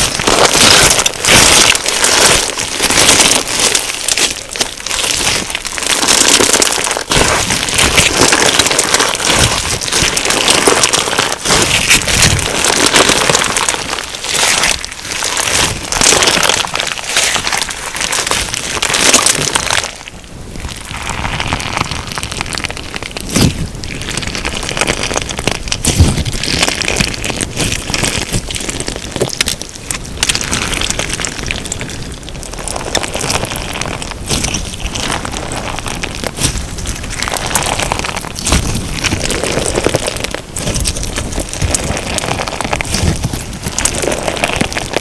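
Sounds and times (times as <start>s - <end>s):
crunchy slime beads popping: 0.0s - 45.0s.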